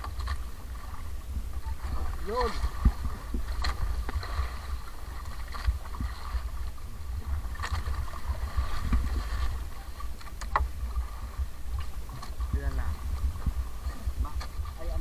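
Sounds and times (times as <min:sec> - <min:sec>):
water lapping around boat: 0:00.0 - 0:15.0
water splashes: 0:00.0 - 0:15.0
wind rumbling on microphone: 0:00.0 - 0:15.0.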